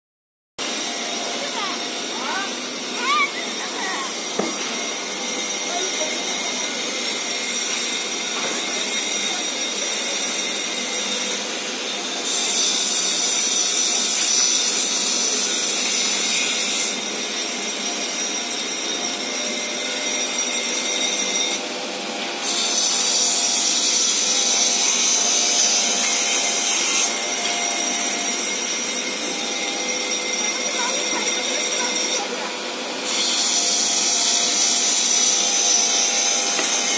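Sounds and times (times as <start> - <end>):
factory machinery running: 0.6 - 36.9
saw cutting wooden boards: 0.6 - 36.9.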